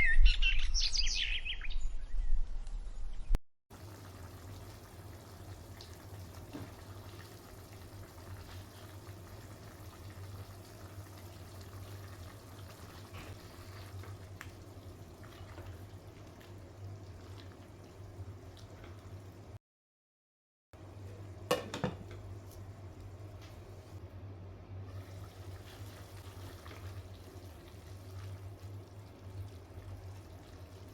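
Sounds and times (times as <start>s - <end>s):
food simmering in a pan: 3.7s - 19.6s, 20.8s - 24.2s, 24.8s - 30.9s.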